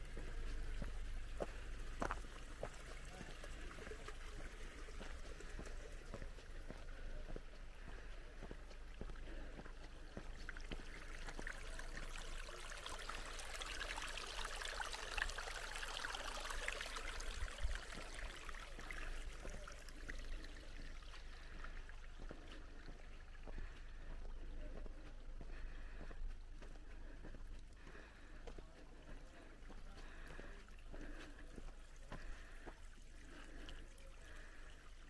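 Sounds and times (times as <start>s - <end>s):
stream water burbling: 0.0s - 35.0s.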